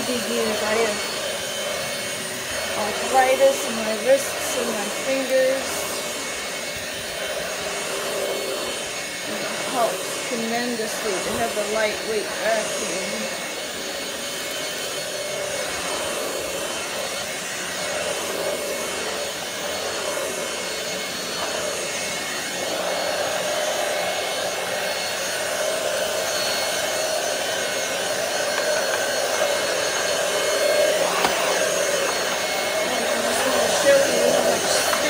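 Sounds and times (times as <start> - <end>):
stick vacuum motor whine: 0.0 - 35.0.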